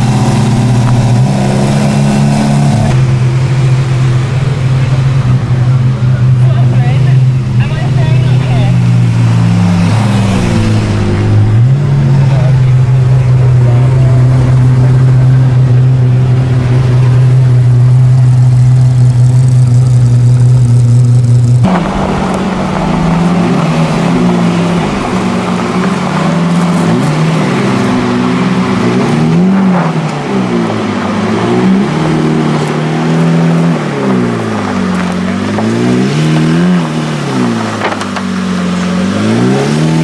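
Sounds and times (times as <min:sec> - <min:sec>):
low engine drone: 0:00.0 - 0:39.9
car engine revving: 0:00.0 - 0:40.0.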